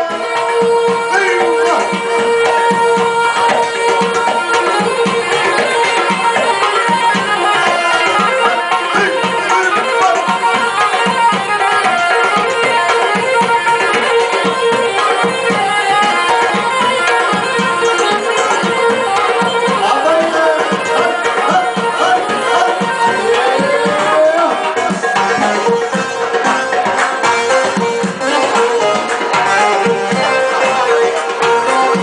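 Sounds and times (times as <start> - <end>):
dance music: 0.0 - 32.0
hand drum beat: 0.0 - 32.0.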